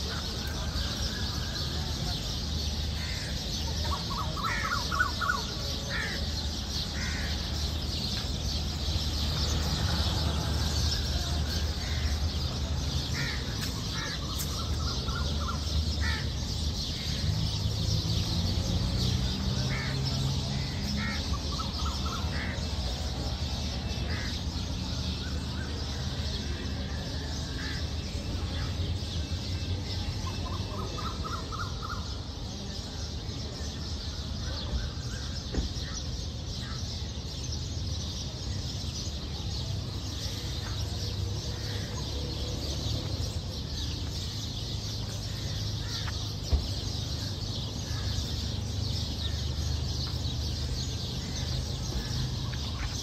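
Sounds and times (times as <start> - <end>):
birds calling: 0.0 - 53.0
low hum of city traffic: 0.0 - 53.0.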